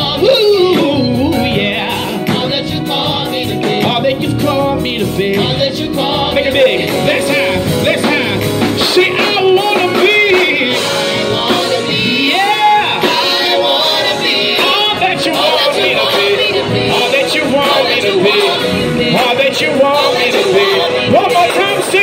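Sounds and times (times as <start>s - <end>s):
backing singers: 0.0s - 22.0s
band playing: 0.0s - 22.0s
man singing gospel: 0.0s - 22.0s.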